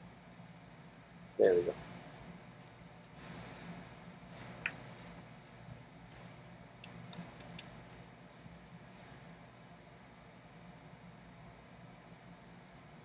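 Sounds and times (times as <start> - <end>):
heater humming: 0.0 - 13.0.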